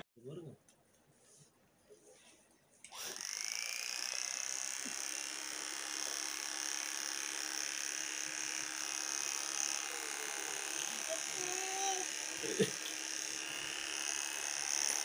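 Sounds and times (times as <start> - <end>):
electric hair clipper buzzing: 2.9 - 15.0.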